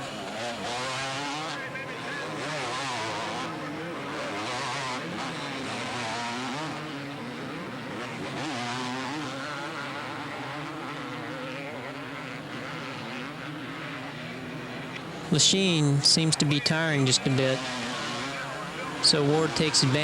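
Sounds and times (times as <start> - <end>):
motocross motorcycles revving: 0.0 - 20.0.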